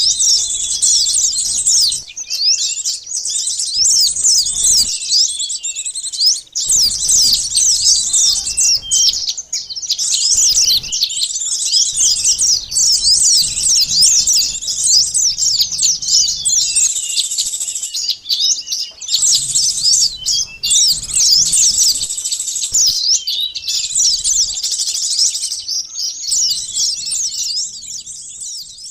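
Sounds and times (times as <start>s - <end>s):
small birds twittering: 0.0s - 28.9s.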